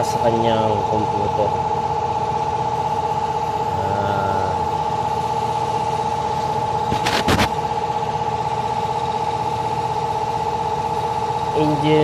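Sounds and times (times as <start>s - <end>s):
engine idling with whine: 0.0s - 12.0s.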